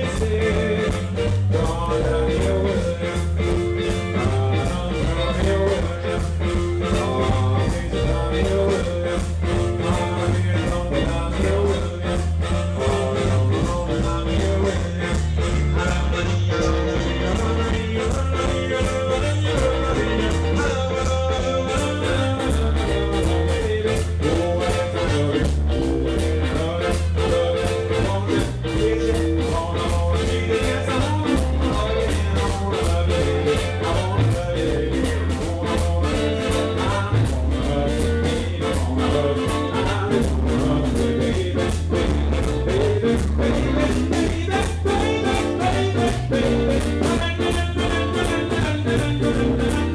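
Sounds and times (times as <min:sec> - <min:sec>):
live band playing ska song: 0:00.0 - 0:49.9
person singing: 0:00.0 - 0:49.9.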